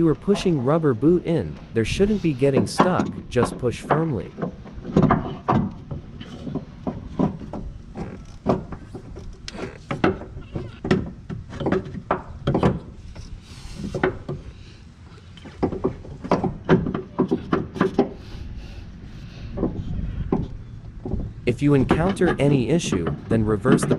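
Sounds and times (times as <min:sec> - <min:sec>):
metal knocks and clunks: 0:00.0 - 0:14.6, 0:15.3 - 0:18.3, 0:19.0 - 0:23.9.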